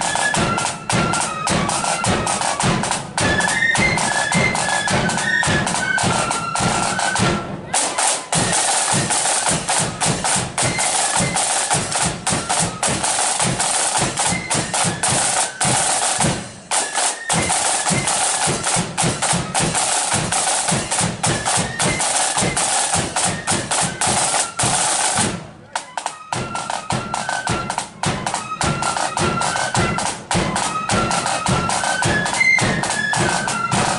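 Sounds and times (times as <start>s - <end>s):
flutes playing a tune: 0.0s - 33.9s
snare drums rolling: 0.0s - 33.9s.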